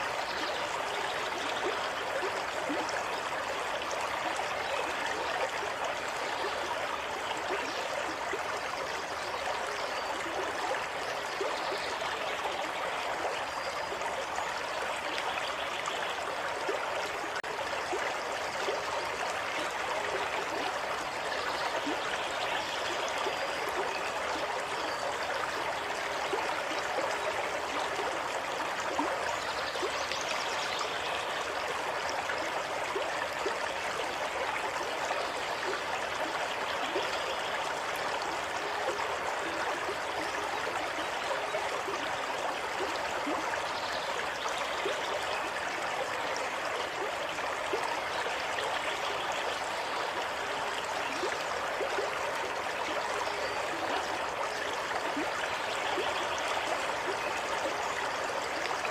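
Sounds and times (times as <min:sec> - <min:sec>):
stream rushing and trickling: 0:00.0 - 0:58.9.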